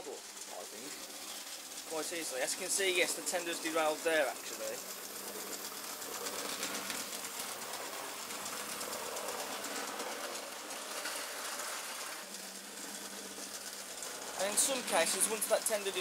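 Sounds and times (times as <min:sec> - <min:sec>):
electric motor whir: 0:00.0 - 0:16.0
model train wheels clattering: 0:00.0 - 0:16.0.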